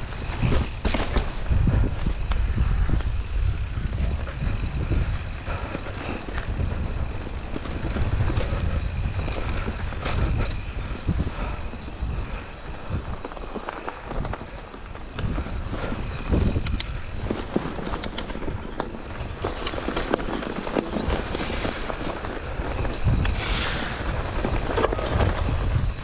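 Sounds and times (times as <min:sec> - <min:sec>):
bike clattering over bumps: 0:00.0 - 0:26.0
bike tyre noise on dirt: 0:00.0 - 0:26.0
wind rumble on microphone: 0:00.0 - 0:26.0.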